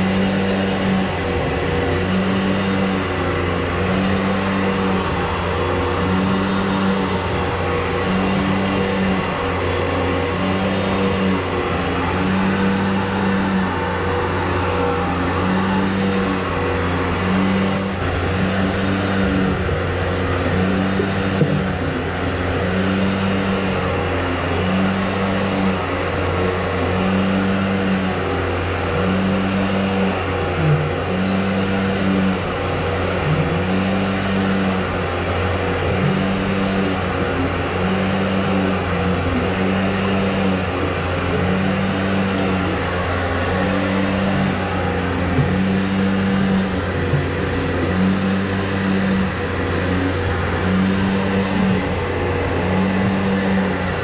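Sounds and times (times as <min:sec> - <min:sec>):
drain cleaning machine humming: 0:00.0 - 0:54.0.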